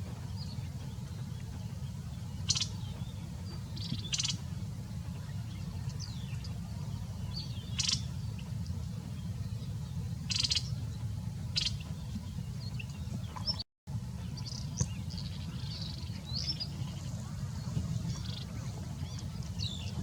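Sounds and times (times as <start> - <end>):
low rumble: 0.0 - 20.0
small birds chirping: 0.0 - 20.0.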